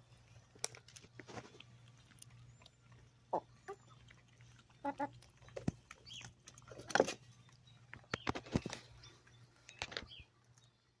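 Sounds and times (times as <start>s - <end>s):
beaks tapping on concrete: 0.6s - 10.8s.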